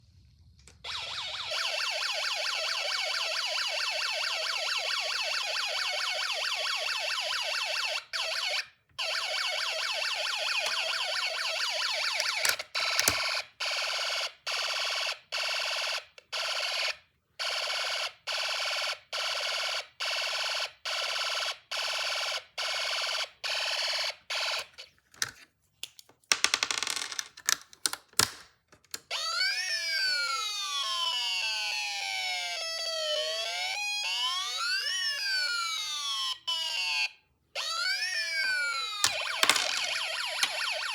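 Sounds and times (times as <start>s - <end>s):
electronic police siren warbling: 0.8s - 24.7s, 29.1s - 40.9s.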